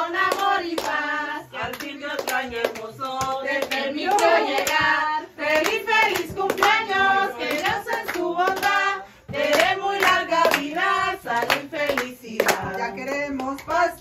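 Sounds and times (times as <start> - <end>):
hand clapping: 0.0 - 14.0
people singing in unison: 0.0 - 14.0.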